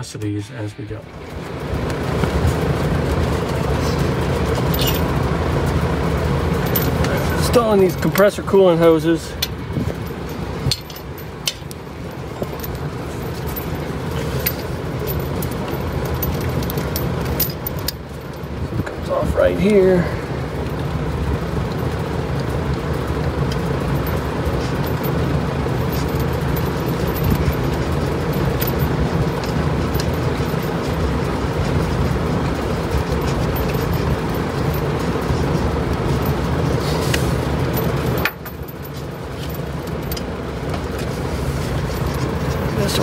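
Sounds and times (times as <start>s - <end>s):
hoses and fittings clicking: 1.3s - 5.8s, 6.5s - 43.0s.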